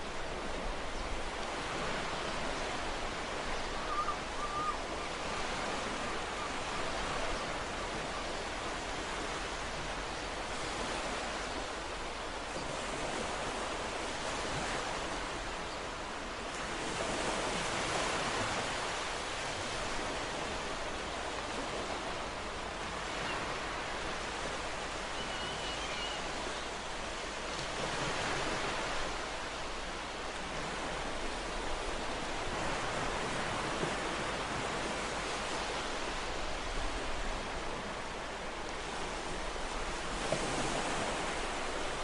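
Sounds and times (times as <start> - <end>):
ocean waves on shore: 0.0 - 42.0.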